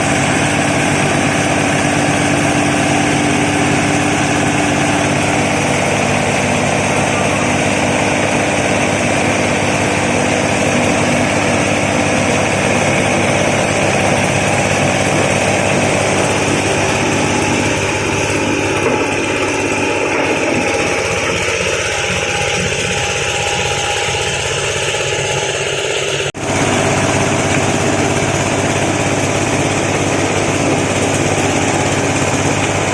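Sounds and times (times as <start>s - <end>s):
grinding machine running: 0.0s - 32.9s.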